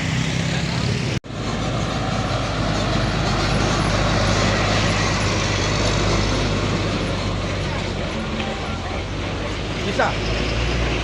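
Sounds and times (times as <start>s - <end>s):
road noise: 0.0s - 11.0s
truck diesel engine under load: 0.0s - 11.0s.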